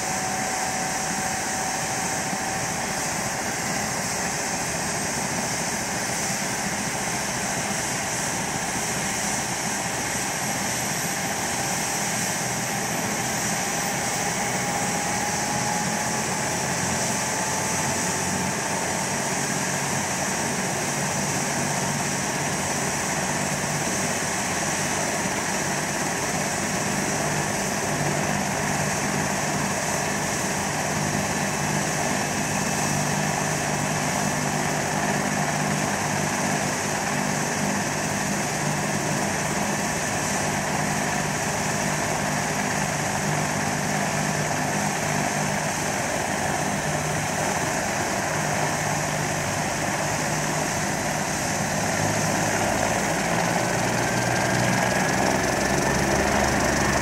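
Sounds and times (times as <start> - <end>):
helicopter turbine roar and whine: 0.0 - 57.0.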